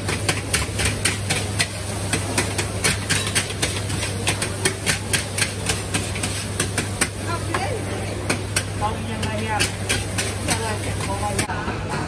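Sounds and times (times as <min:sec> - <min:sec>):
rapid knocks of food preparation: 0:00.0 - 0:12.0.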